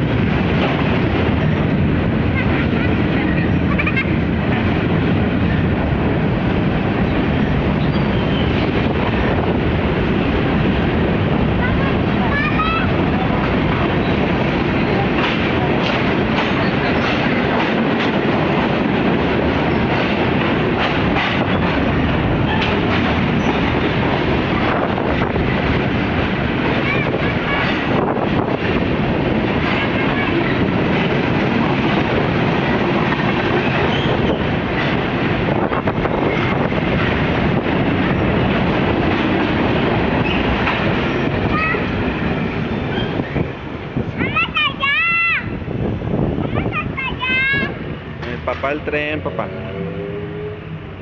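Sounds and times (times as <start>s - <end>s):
wheels clacking over rail joints: 0.0s - 44.8s
train wheels rumbling on rails: 0.0s - 51.0s.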